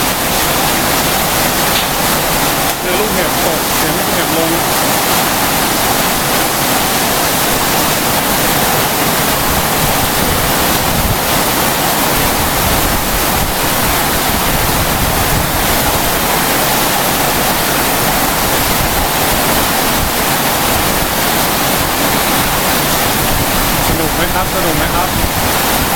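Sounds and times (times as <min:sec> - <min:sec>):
heavy rain and hail: 0:00.0 - 0:25.9.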